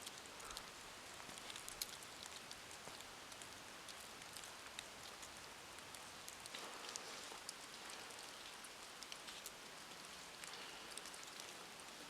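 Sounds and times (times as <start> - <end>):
faint steady hiss: 0.0 - 12.0
meltwater drips pattering: 0.0 - 12.0.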